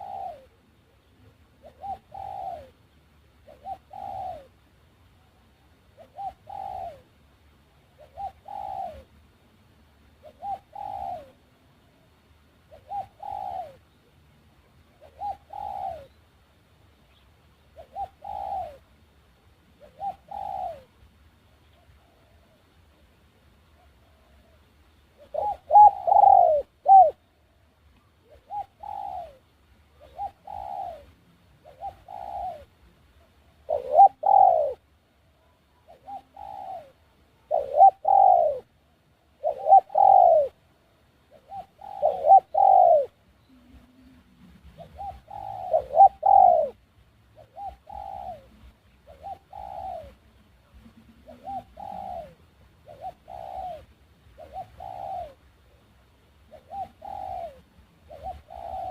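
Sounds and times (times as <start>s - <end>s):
doves cooing: 0.0s - 2.8s, 3.4s - 4.6s, 5.2s - 7.2s, 7.8s - 9.2s, 10.2s - 14.2s, 14.8s - 16.2s, 17.7s - 18.9s, 19.7s - 21.0s, 21.6s - 23.0s, 23.7s - 58.9s.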